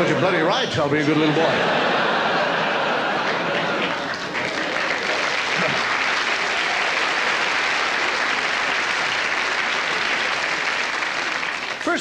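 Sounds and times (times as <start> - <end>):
audience applauding: 1.9 - 12.0.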